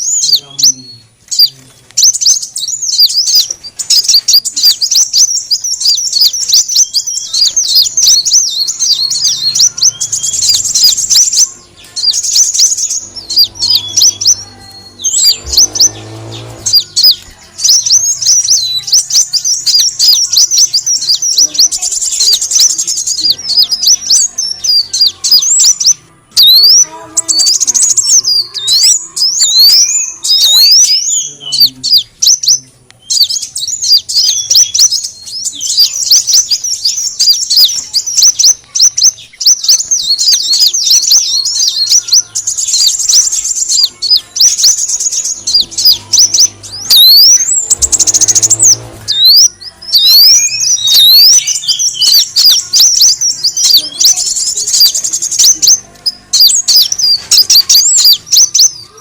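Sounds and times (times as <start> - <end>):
bird twittering high-pitched: 0.0 - 59.0.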